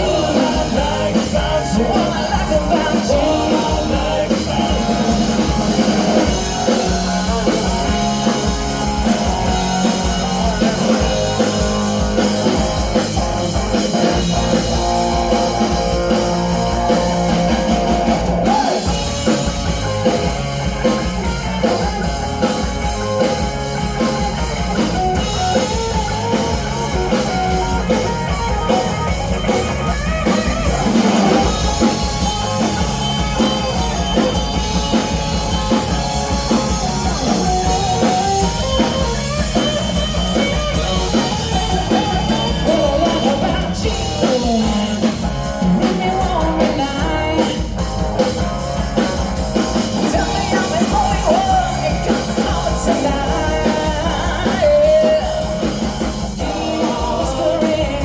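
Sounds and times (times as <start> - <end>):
drum kit: 0.0 - 58.0
guitar: 0.0 - 58.0.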